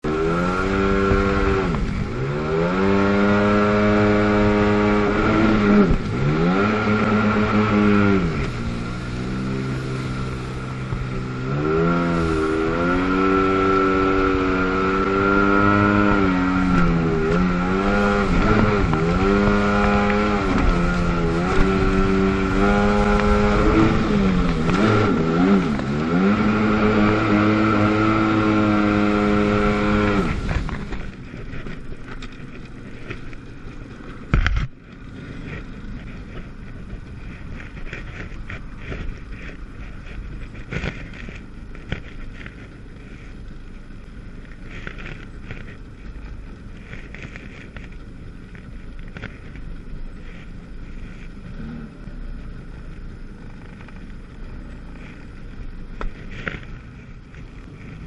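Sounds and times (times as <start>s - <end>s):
steady high whine: 0.0s - 58.0s
watercraft engine revving: 0.0s - 58.0s.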